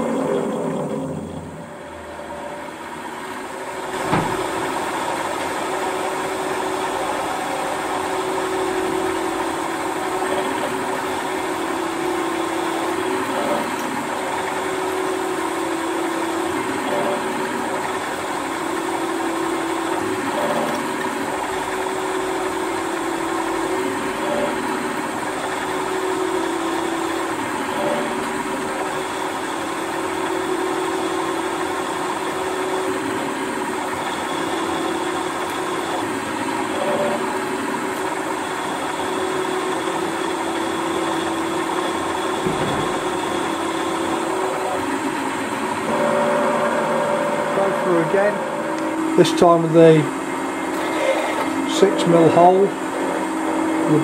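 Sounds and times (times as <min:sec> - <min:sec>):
drill cutting into metal: 0:03.8 - 0:49.9.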